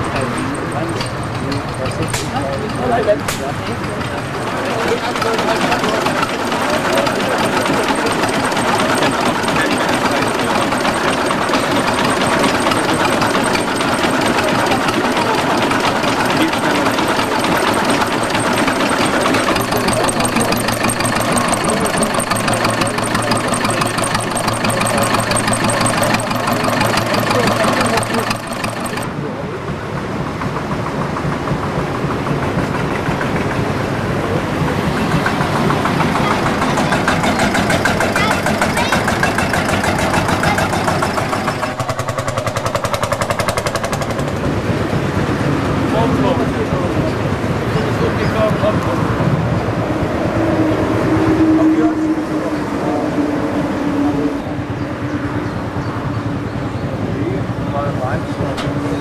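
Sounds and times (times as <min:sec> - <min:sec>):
old engine running: 0:00.0 - 0:59.0.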